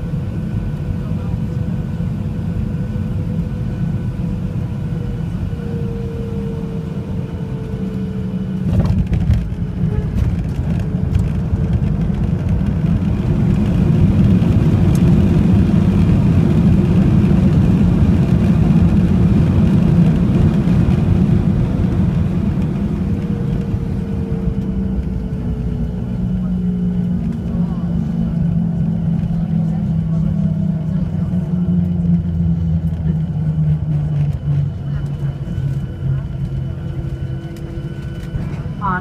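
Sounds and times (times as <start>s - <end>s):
jet engine reverse thrust: 0.0s - 39.0s.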